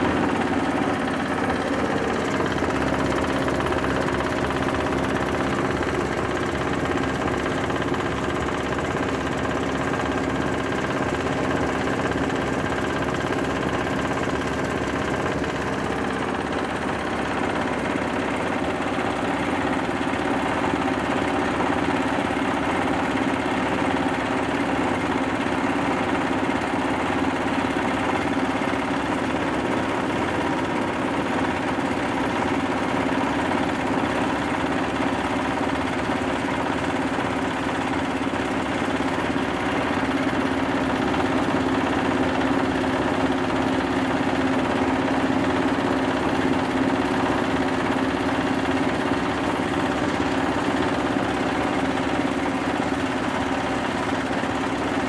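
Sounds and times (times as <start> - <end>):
grinding mill running: 0.0 - 55.0.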